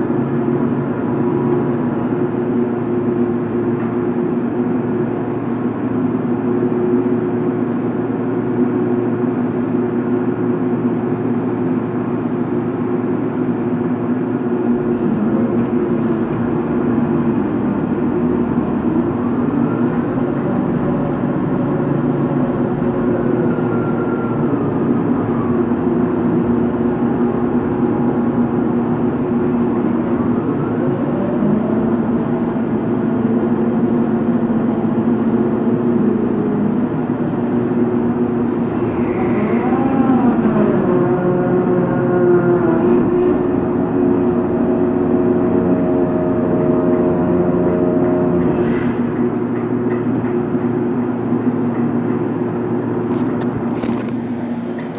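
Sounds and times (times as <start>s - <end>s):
diesel machinery droning: 0.0s - 54.9s.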